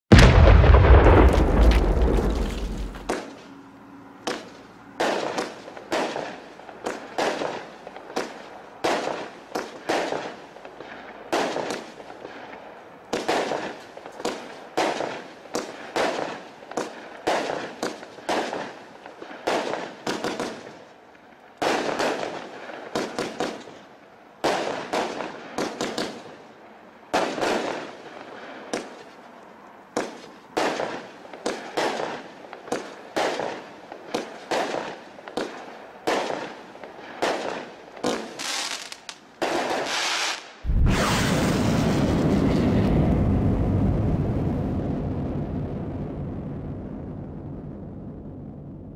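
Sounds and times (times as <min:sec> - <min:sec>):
firework bangs: 0:00.1 - 0:03.4, 0:04.2 - 0:20.8, 0:27.1 - 0:29.2, 0:29.9 - 0:48.6.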